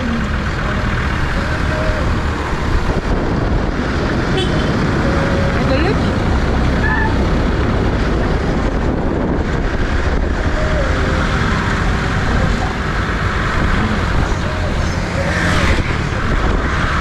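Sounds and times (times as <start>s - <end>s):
vehicle engine and road noise: 0.0s - 17.0s
wind buffeting microphone: 1.2s - 17.0s.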